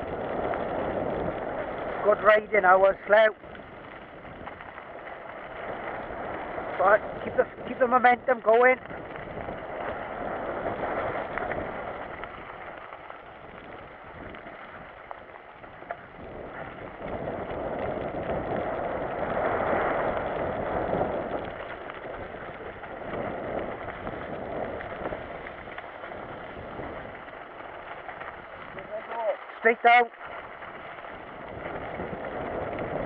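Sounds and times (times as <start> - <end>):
bike rattling: 0.0 - 33.0
tyres rolling over gravel and mud: 0.0 - 33.0.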